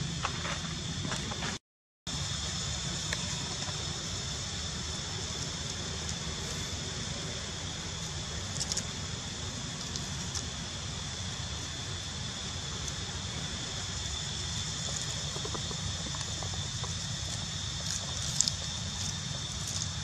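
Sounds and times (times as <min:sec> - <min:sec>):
even hiss and low rumble: 0:00.0 - 0:20.0.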